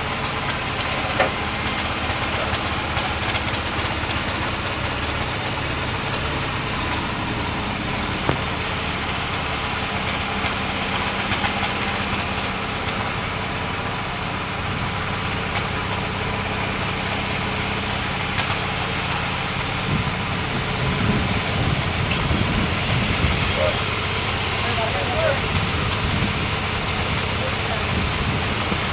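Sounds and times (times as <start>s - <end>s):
engine humming: 0.0s - 28.9s.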